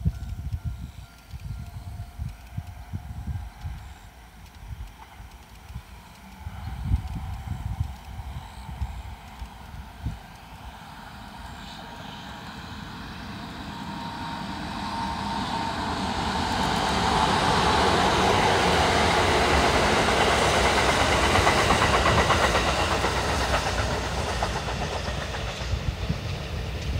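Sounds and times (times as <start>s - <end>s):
electric train passing: 0.0s - 26.9s.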